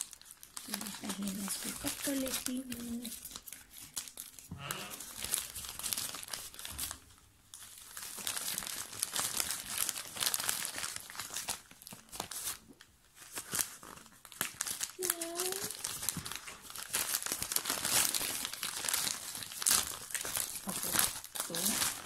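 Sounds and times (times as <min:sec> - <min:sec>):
plastic mailer bag crinkling and tearing: 0:00.0 - 0:22.0.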